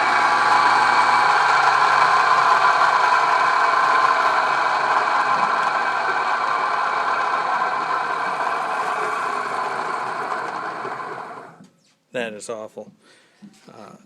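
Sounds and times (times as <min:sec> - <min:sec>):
loud electric motor running: 0:00.0 - 0:11.6.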